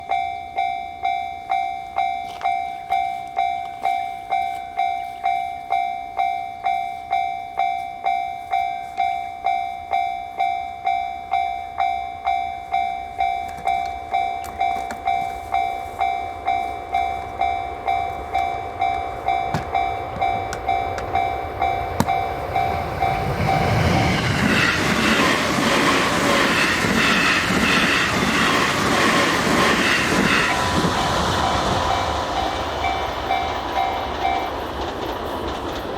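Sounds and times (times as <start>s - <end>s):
level crossing warning bell: 0.0s - 35.9s
train rumble and wheel noise: 0.0s - 35.9s.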